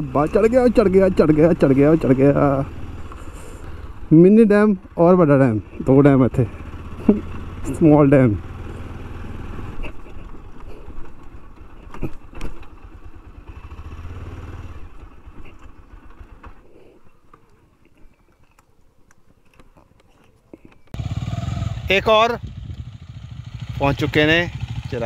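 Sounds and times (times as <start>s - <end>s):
motorcycle engine running: 0.0s - 16.6s, 21.0s - 25.0s.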